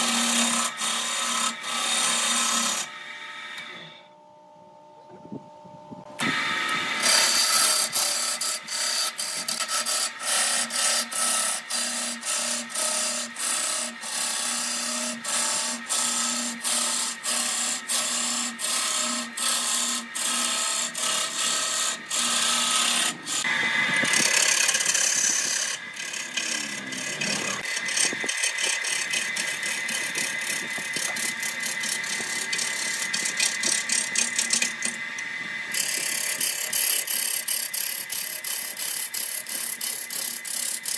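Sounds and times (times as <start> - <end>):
lathe gouge scraping wood: 0.0 - 3.0, 6.2 - 40.9.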